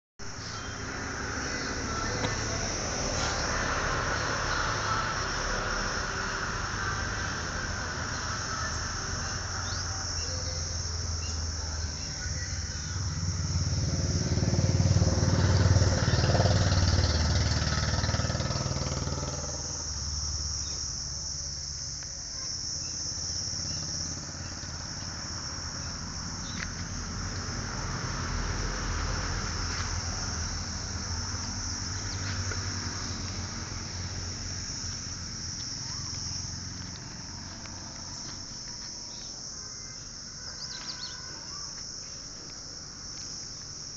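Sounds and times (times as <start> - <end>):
crickets chirping: 0.2 - 43.9
motor vehicle rumble: 0.2 - 43.9.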